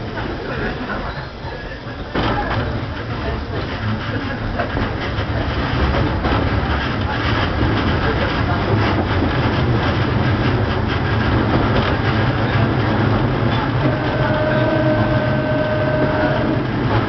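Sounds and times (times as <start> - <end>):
electric train hum: 0.0 - 17.0
rail and wheel noise: 0.0 - 17.0.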